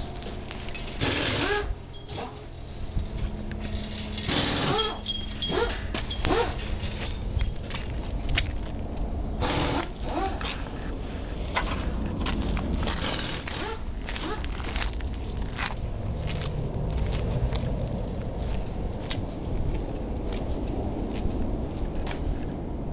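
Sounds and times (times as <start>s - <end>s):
wind rumble: 0.0s - 22.9s.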